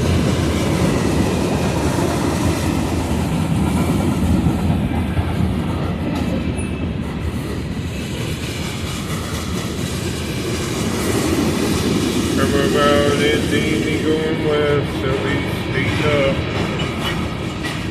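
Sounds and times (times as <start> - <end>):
clickety-clack of wheels: 0.0 - 12.6, 14.8 - 17.9
train wheels rumbling on rails: 0.0 - 17.9.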